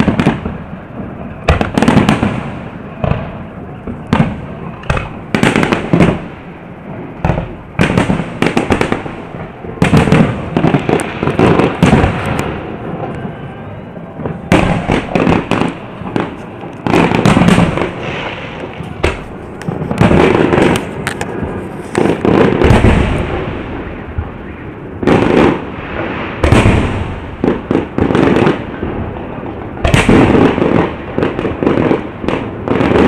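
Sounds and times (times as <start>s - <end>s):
fireworks bursting with crackling: 0.0s - 33.0s.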